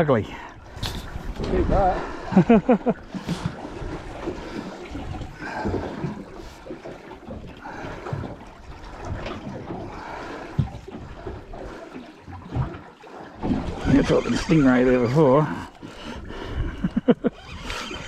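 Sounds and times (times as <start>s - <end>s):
water lapping against boat hull: 0.0s - 18.0s.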